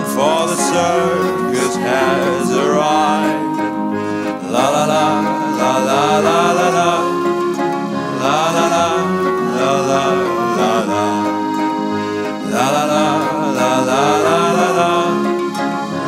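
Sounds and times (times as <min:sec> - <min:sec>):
waltz music: 0:00.0 - 0:16.0.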